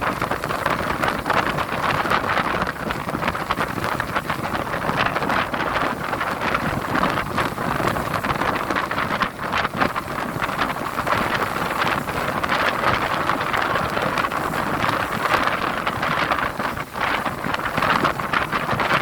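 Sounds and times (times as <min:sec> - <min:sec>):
sea waves surging and washing: 0:00.0 - 0:19.0.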